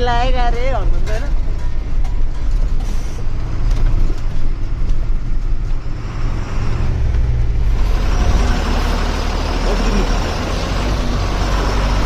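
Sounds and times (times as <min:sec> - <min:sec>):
rattles and knocks of bouncing truck: 0:00.0 - 0:12.0
truck engine drone: 0:00.0 - 0:12.0.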